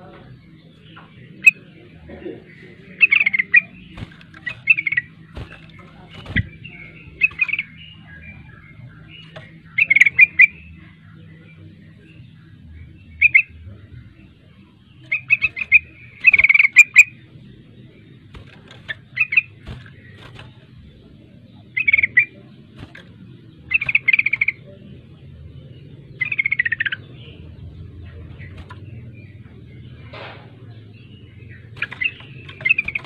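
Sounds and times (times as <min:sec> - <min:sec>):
bulbul chattering song: 0:00.3 - 0:33.0.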